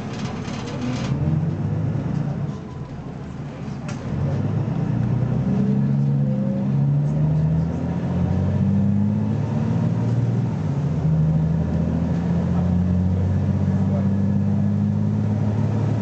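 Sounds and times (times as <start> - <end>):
bus engine accelerating: 0.0 - 16.0.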